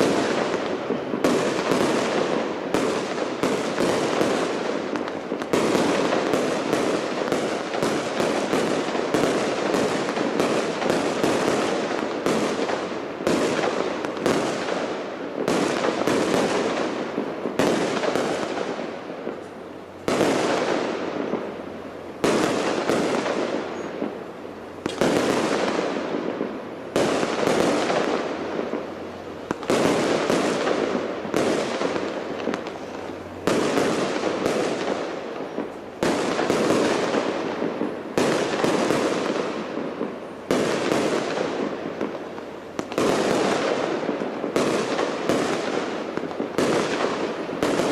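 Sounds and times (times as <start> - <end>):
fireworks bangs echoing: 0.0 - 47.9.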